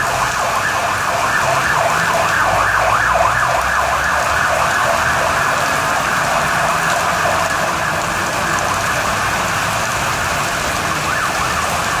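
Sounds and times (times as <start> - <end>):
fire engine siren wailing: 0.0 - 12.0
heavy rain hissing: 0.0 - 12.0.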